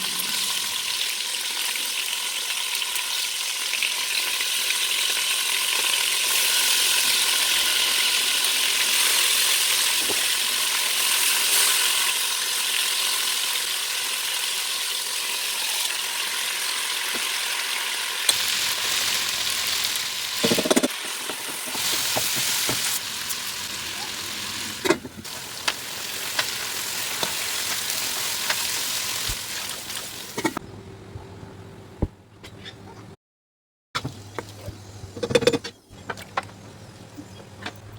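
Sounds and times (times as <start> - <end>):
food sizzling in hot oil: 0.0 - 30.6.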